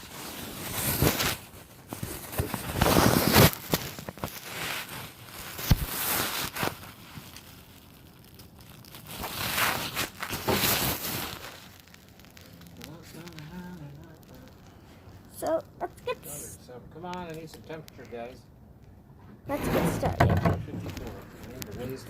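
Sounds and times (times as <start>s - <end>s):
rustling and crinkling: 0.0s - 16.5s, 19.2s - 22.0s.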